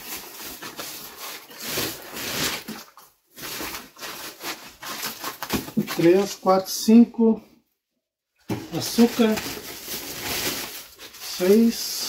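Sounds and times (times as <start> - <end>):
plastic bags rustling: 0.0 - 6.5, 8.5 - 12.0.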